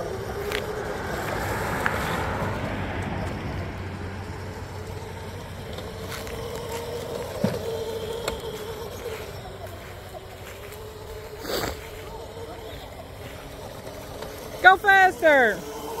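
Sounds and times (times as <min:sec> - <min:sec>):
go-kart motor whining: 0:00.0 - 0:16.0.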